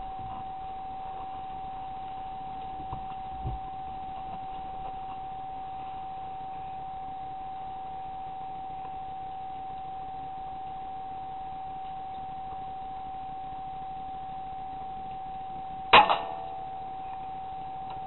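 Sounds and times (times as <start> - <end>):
high-pitched electronic whine: 0.0 - 18.0.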